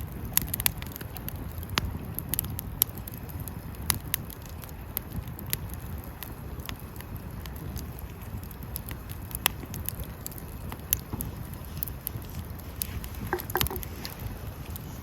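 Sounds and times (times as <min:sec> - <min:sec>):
low rumble of burning: 0:00.0 - 0:15.0
wood fire crackling: 0:00.0 - 0:15.0
sharp pops and snaps: 0:00.3 - 0:14.9.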